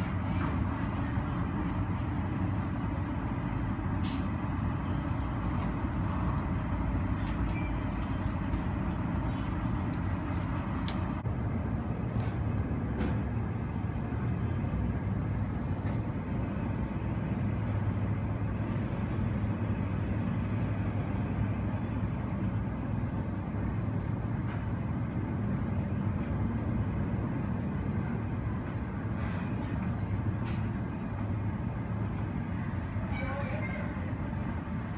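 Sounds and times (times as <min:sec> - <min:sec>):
muffled low rumble of airport apron: 0:00.0 - 0:34.9.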